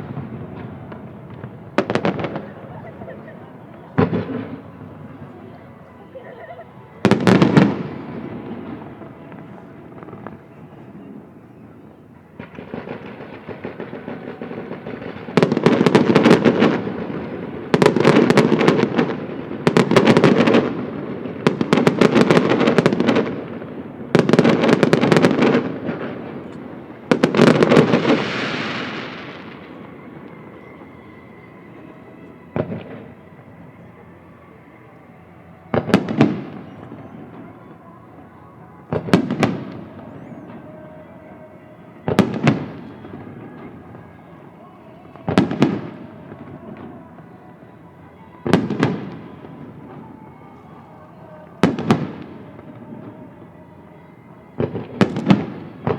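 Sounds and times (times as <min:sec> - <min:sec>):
fireworks booming: 0:00.0 - 0:55.9.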